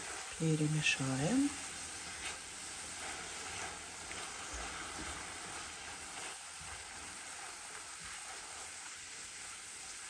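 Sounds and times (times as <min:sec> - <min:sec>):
mushrooms and onions sizzling in pan: 0:00.0 - 0:10.0
spatula stirring in pan: 0:00.0 - 0:10.0.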